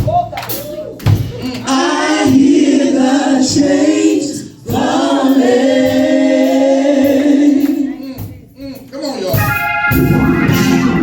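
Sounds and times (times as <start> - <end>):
gospel choir singing: 1.4 - 11.0.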